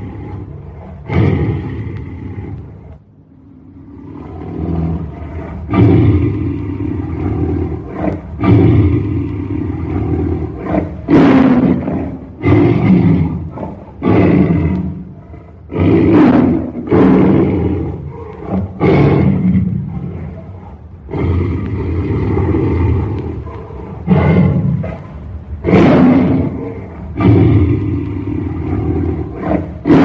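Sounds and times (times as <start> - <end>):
tiger roaring: 0.0 - 30.0.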